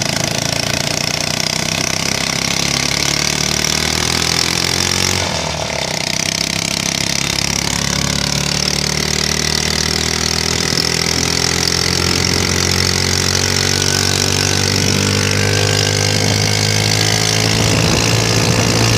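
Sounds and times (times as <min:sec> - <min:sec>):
vehicle engine droning: 0:00.0 - 0:18.9.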